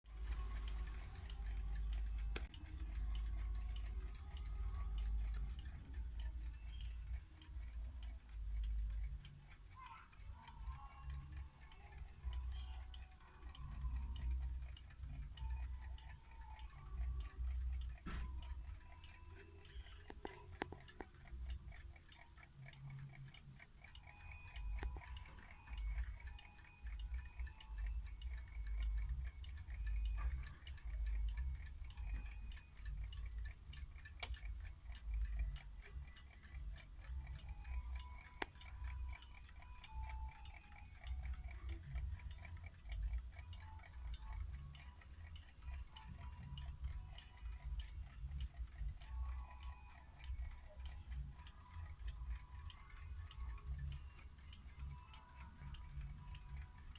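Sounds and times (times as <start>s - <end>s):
alarm clocks ticking: 0.0s - 56.9s.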